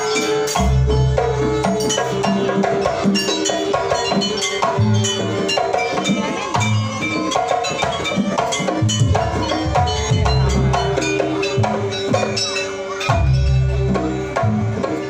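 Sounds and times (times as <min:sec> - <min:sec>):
percussion-led live music: 0:00.0 - 0:15.0.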